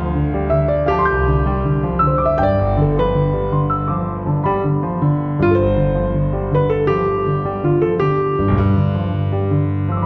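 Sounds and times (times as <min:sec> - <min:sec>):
piano background music: 0:00.0 - 0:10.0.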